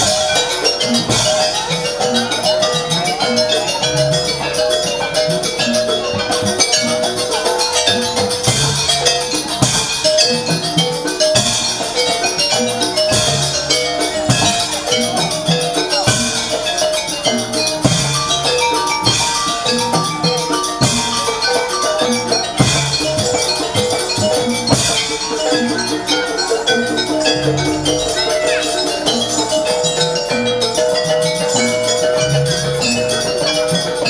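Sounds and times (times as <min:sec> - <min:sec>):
heavy drum strokes: 0:00.0 - 0:34.0
ringing tuned metal percussion: 0:00.0 - 0:34.0.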